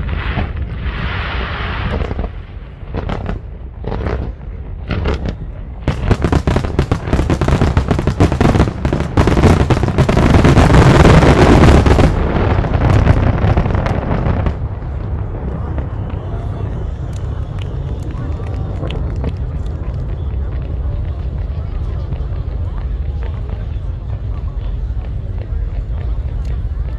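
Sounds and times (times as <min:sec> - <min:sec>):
fireworks bangs and crackle: 0:00.0 - 0:26.9.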